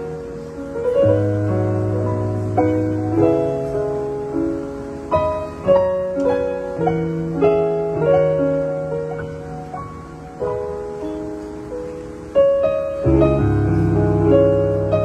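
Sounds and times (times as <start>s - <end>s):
piano playing gentle chords: 0.0s - 15.0s.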